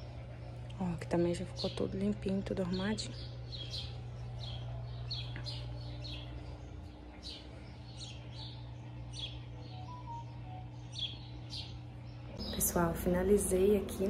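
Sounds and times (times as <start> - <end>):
steady low hum: 0.0 - 14.0
small bird chirping: 1.4 - 13.1.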